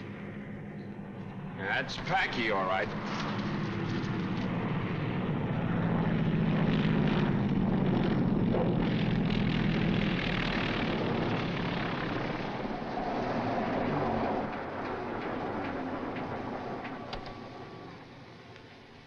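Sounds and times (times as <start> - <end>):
piston aircraft engines running: 0.0 - 19.0.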